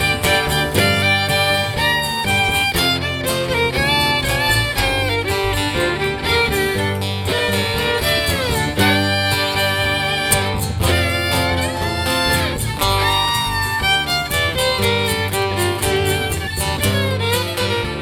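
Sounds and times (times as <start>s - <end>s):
bass: 0.0s - 18.0s
fiddle lead with sliding notes: 0.0s - 18.0s
strummed guitar: 0.0s - 18.0s.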